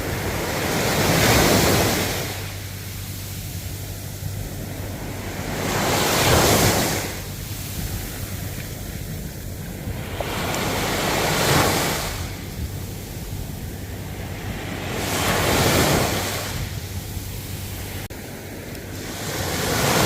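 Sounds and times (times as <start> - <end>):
ocean waves washing in: 0.0 - 20.0
wind rumble on microphone: 0.0 - 20.0.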